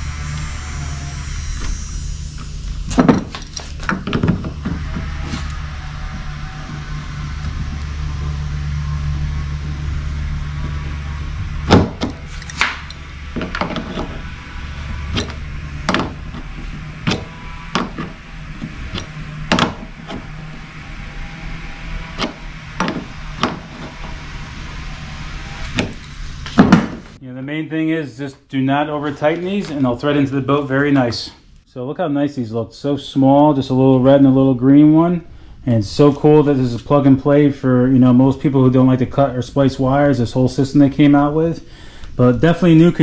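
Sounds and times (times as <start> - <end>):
low hum: 0.0 - 30.8, 32.8 - 43.0.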